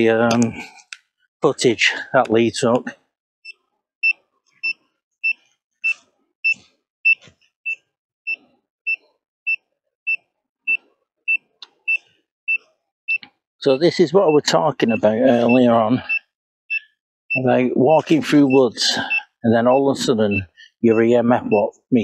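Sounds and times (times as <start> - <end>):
high electronic beeps: 3.5 - 21.6.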